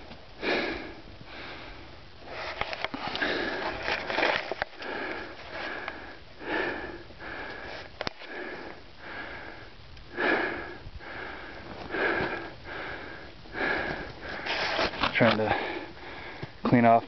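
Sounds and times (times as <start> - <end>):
person sniffing and breathing: 0.4 - 16.5.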